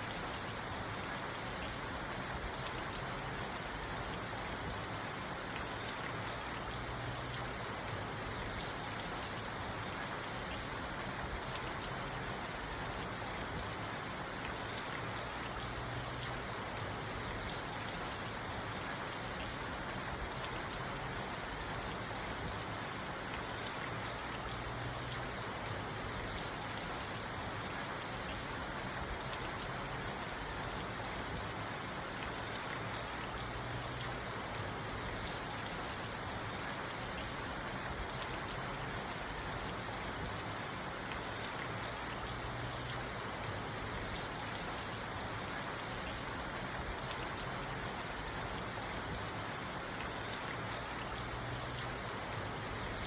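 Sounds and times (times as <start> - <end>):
rain on a car roof: 0.0 - 53.0.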